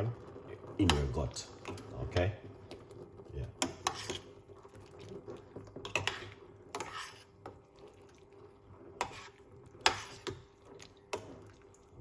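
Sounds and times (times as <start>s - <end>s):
faint liquid sounds in a cup: 0.1s - 12.0s.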